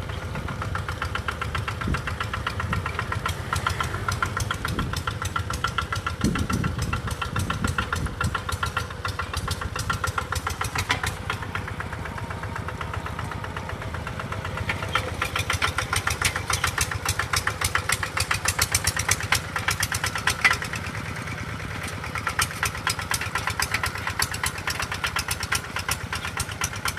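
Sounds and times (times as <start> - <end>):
small engine knocking: 0.0 - 26.9.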